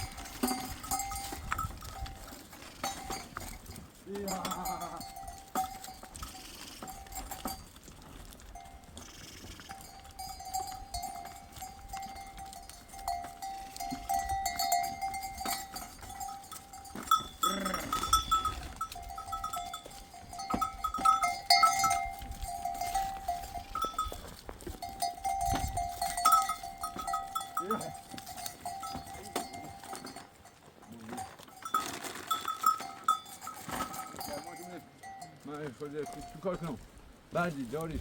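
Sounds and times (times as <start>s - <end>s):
sheep and goat bells jangling: 0.0s - 38.0s.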